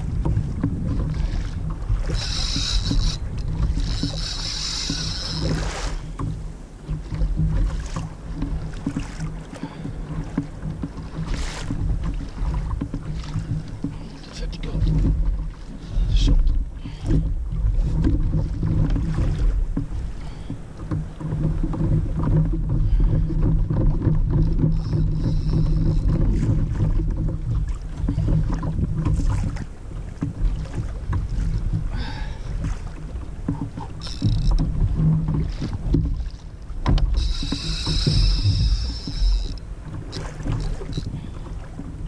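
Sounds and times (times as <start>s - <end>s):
knocks on hull: 0.0s - 2.1s, 4.9s - 41.0s
water slapping kayak hull: 0.0s - 42.0s
wind rumbling on microphone: 0.0s - 42.0s.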